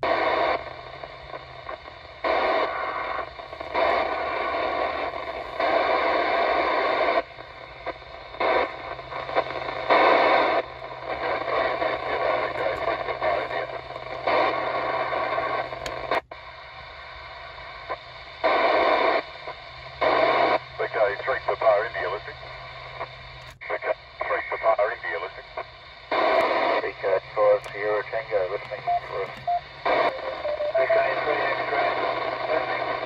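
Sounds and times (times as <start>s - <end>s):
radio static bursts: 0.0s - 16.2s, 20.0s - 33.0s.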